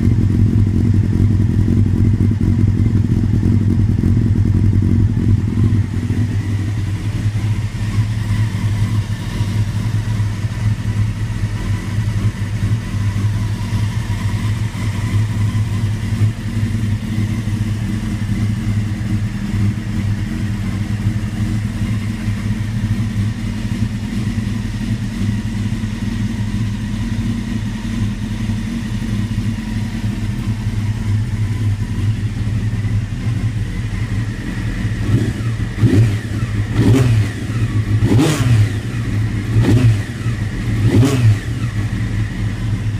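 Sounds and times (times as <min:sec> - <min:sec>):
motorcycle engine idling roughly: 0:00.0 - 0:42.9.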